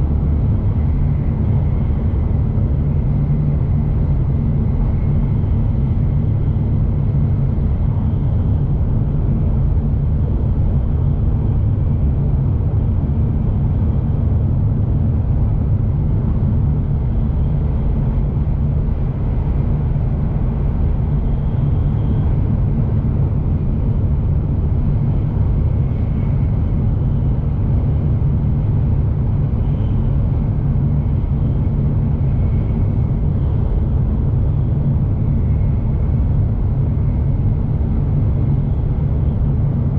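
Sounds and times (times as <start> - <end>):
train running low rumble: 0.0 - 39.9.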